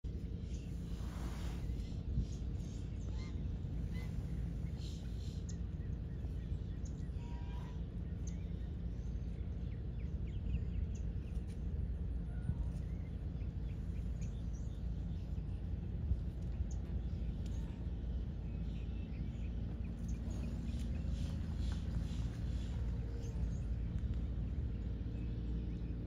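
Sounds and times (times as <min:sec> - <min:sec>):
low rumbling background noise: 0:00.0 - 0:26.0
faint bird chirps: 0:00.1 - 0:26.0.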